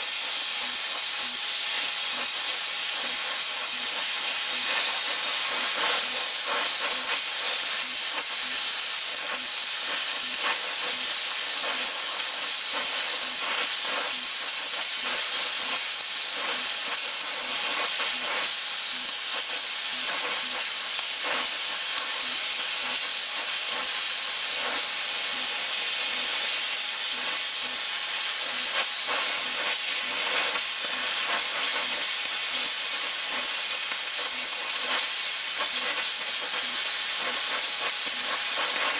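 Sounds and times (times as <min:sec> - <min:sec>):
cutting torch gas hiss: 0:00.0 - 0:38.9
sparks crackling: 0:00.0 - 0:38.9.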